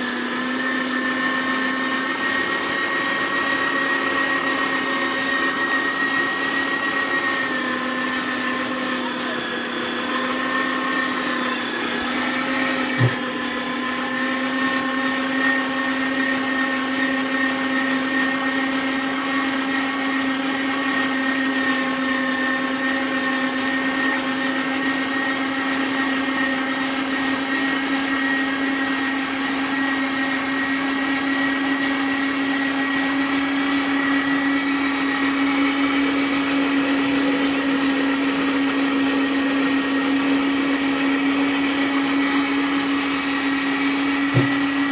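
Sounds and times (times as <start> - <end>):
meat grinder motor humming: 0.0 - 44.9.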